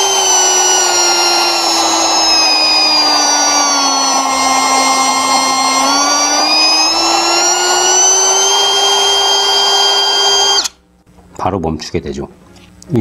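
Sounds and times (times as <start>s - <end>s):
router motor whining: 0.0s - 10.8s.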